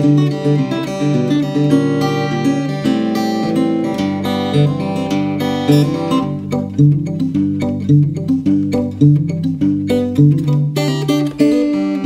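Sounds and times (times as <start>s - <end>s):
fingerstyle acoustic guitar: 0.0s - 12.0s.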